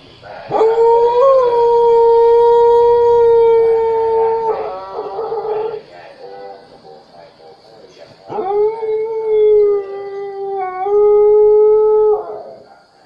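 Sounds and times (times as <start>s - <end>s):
dog howling: 0.5s - 6.7s, 8.3s - 12.8s.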